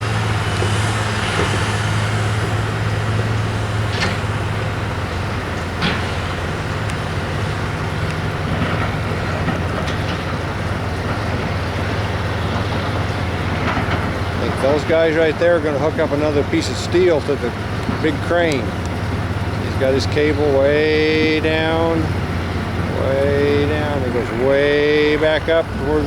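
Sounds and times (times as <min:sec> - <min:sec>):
heavy diesel engine droning: 0:00.0 - 0:26.0
short clanks: 0:00.4 - 0:26.0.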